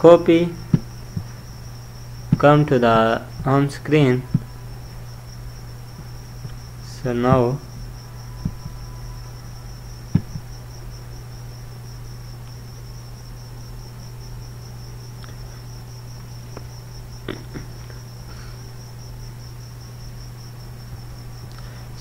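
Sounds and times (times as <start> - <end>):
cricket trilling: 0.0 - 22.0
low steady hum: 0.0 - 22.0.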